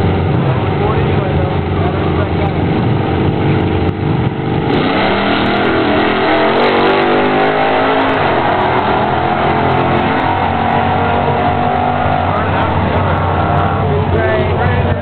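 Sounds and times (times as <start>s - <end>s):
race car engines at full throttle: 0.0s - 15.0s.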